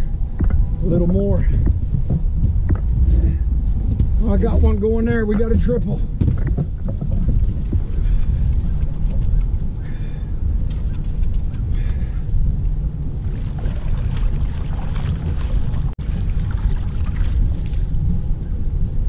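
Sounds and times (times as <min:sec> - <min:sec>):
boat engine rumbling: 0:00.0 - 0:19.0
wind buffeting microphone: 0:00.0 - 0:19.0.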